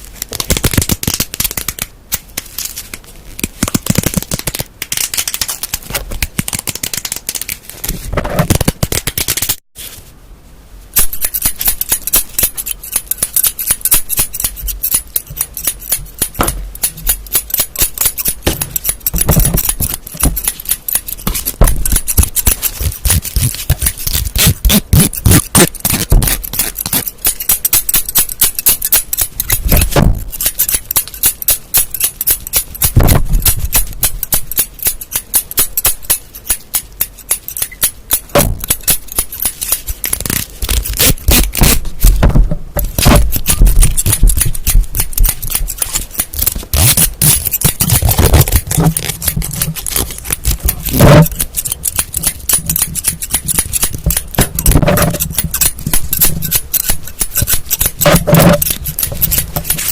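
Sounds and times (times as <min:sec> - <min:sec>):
crisp tapping and scratching clicks: 0:00.1 - 0:09.6, 0:11.4 - 0:59.9.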